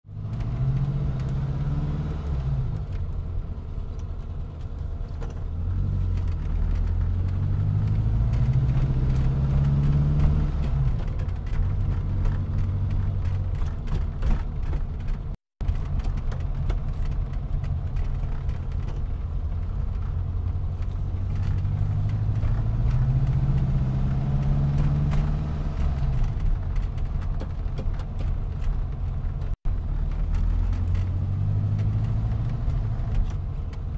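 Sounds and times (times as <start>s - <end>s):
car engine accelerating through gears: 0.1s - 33.9s.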